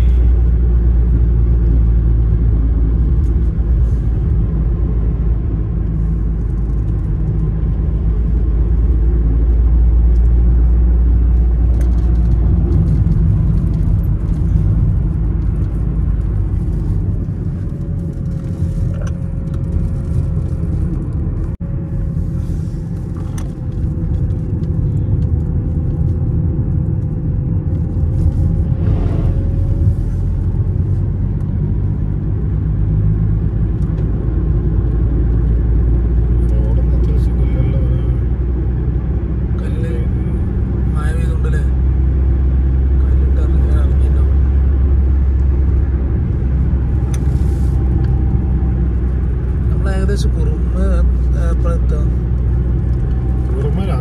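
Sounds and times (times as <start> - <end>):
car engine rumble from inside cabin: 0.0 - 54.0.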